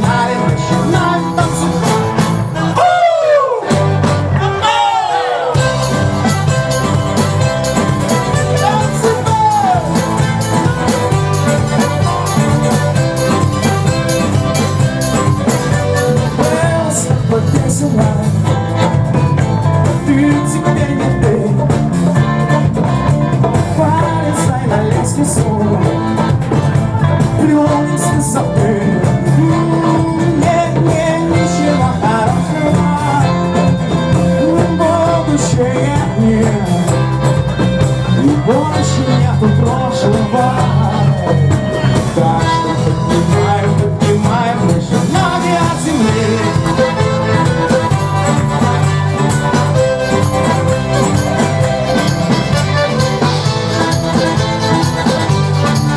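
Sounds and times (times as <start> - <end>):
person singing: 0.0 - 22.8, 23.4 - 55.9
bass line: 0.0 - 55.9
live band playing: 0.0 - 55.9.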